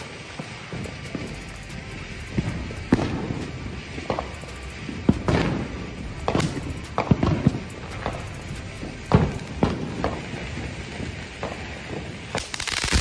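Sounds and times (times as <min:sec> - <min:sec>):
firework cracks and pops: 0:00.0 - 0:13.0
fountain firework hissing: 0:00.0 - 0:13.0.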